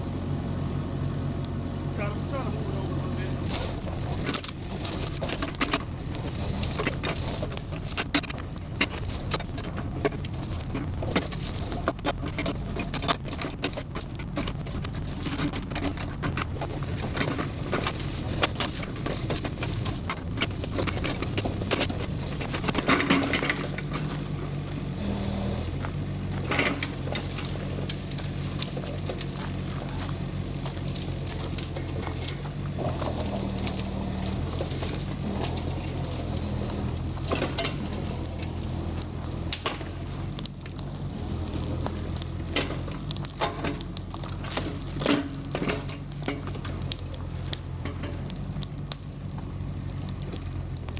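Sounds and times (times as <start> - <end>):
excavator diesel engine running: 0.0 - 50.9
scraping rasp: 3.4 - 48.9.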